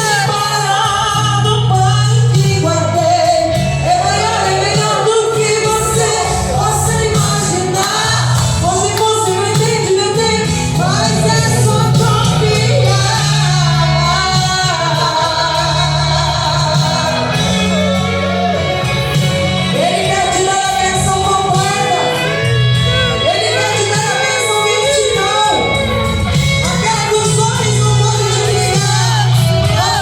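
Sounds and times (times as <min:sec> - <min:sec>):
person singing: 0:00.0 - 0:30.0
held low chords: 0:02.3 - 0:30.0.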